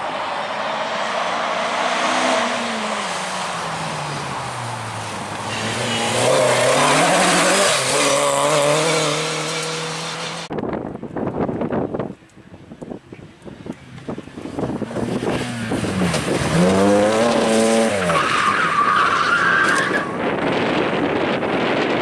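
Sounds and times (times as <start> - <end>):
rally car engine: 0.0 - 10.6, 13.4 - 22.0.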